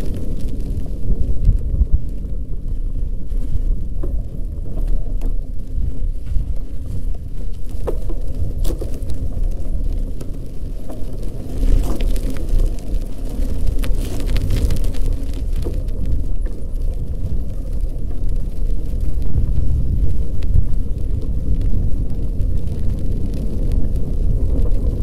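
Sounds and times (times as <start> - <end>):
bicycle rumbling: 0.0 - 25.0.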